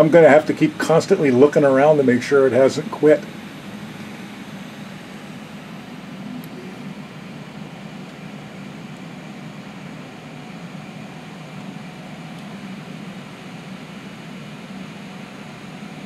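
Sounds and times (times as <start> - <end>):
fans whirring: 0.0 - 16.0.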